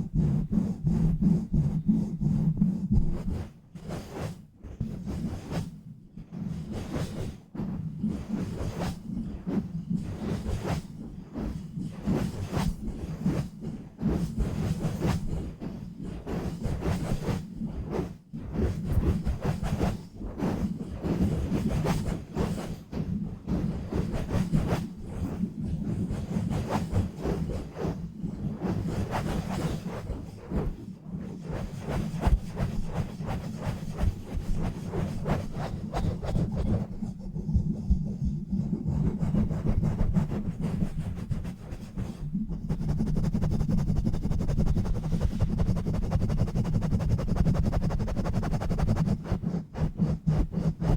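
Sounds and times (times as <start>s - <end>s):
rubbing on a microphone: 0.0s - 50.9s.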